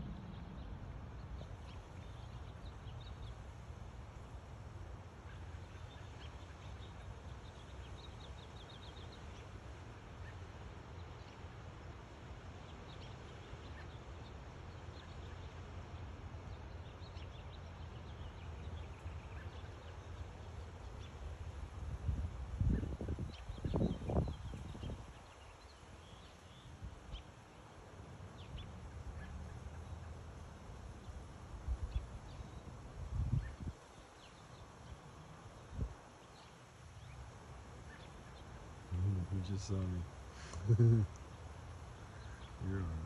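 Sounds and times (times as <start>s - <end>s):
small birds chirping: 0.0s - 4.4s, 5.0s - 43.0s.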